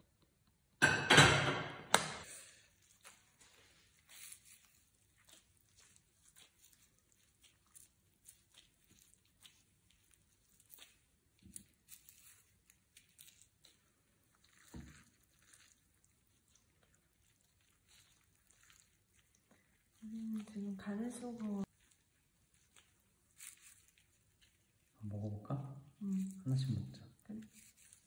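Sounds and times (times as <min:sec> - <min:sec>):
gloved hands rustling: 0:01.9 - 0:25.0, 0:27.4 - 0:28.0.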